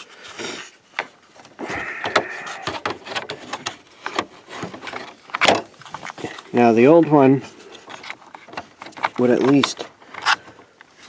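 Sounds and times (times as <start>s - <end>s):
plastic scraping: 0.0s - 11.0s.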